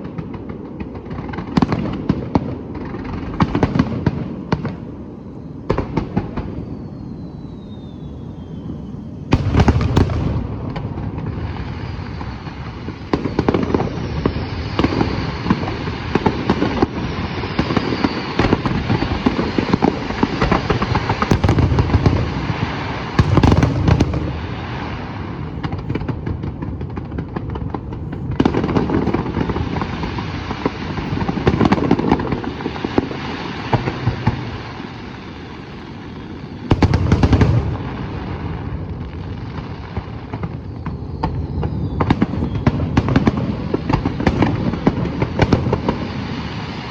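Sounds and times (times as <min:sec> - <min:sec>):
fireworks booms: 0:00.0 - 0:46.9
fireworks crackling and popping: 0:00.0 - 0:46.9
falling firework whistle: 0:03.4 - 0:26.6, 0:27.2 - 0:46.9.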